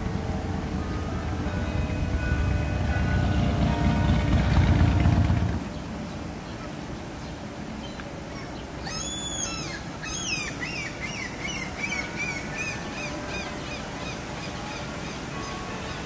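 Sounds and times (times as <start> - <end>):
birds calling and chirping: 0.0 - 16.0
low hum of city noise: 0.0 - 16.0.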